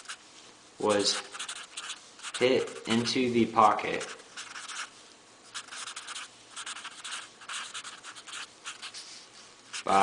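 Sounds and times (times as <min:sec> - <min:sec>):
marker scratching on paper: 0:00.0 - 0:00.2, 0:01.0 - 0:03.2, 0:03.8 - 0:04.9, 0:05.5 - 0:10.0.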